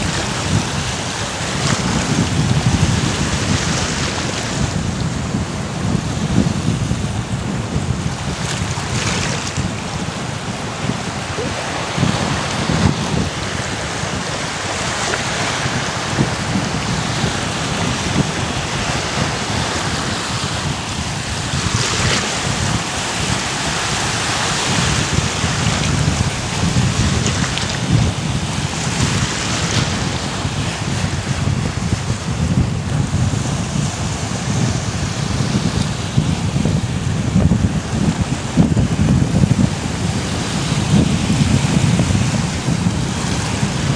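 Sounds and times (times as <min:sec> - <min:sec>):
small waves breaking on beach: 0:00.0 - 0:43.9
wind buffeting microphone: 0:00.0 - 0:43.9.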